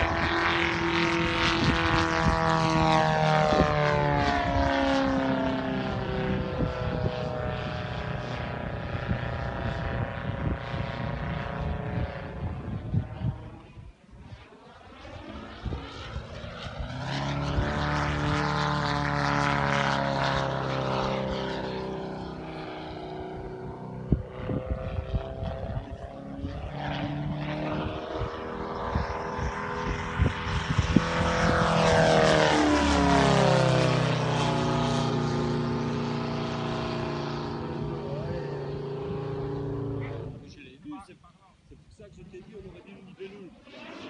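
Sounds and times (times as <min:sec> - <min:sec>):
model plane engine in flight: 0:00.0 - 0:44.0.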